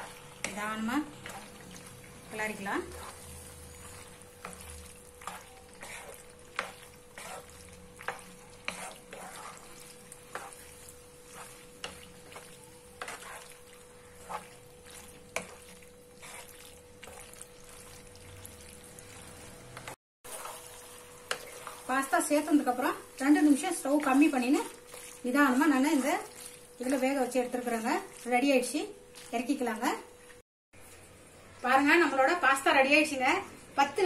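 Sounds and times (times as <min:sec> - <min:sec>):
spatula scraping a pan: 0:00.0 - 0:28.3
sauce sizzling: 0:00.0 - 0:32.4.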